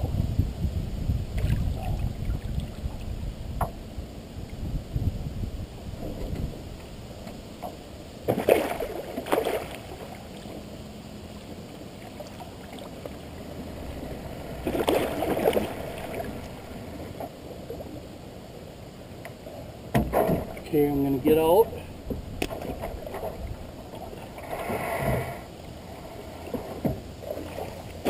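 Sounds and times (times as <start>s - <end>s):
river water: 0.0s - 28.0s
wind: 0.0s - 28.0s.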